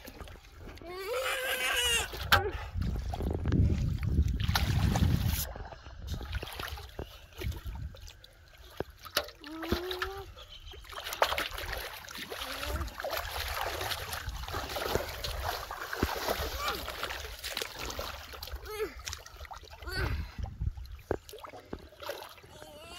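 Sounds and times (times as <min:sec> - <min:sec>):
hands splashing muddy water: 0:00.0 - 0:22.6.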